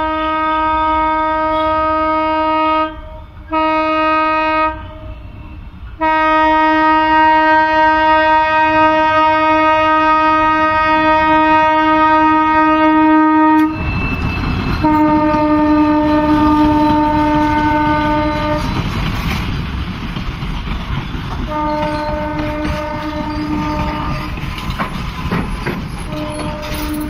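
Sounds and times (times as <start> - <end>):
locomotive horn blasts: 0.0 - 13.9, 14.8 - 18.8, 21.5 - 24.4, 26.0 - 27.0
train rumbling and clattering past: 0.0 - 27.0.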